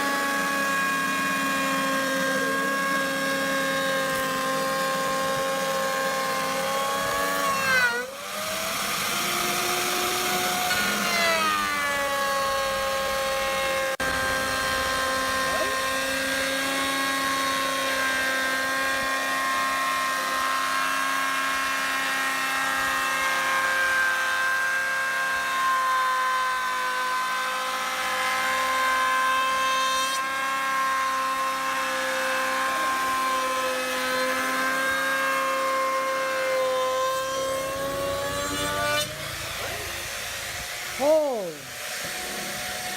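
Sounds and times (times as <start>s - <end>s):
power tool motor whining: 0.0s - 42.9s.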